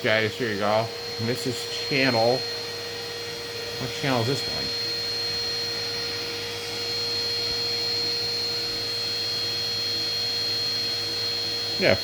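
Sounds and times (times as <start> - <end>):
vacuum cleaner whining: 0.0 - 12.0.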